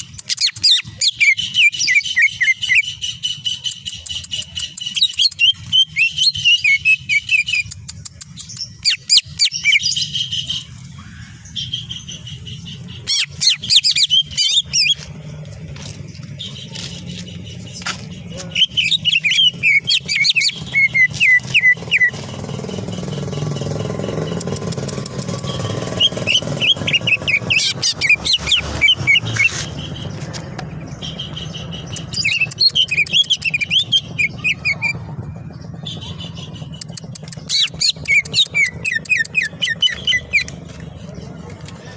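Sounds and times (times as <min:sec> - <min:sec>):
bird singing chattering notes: 0:00.0 - 0:41.9.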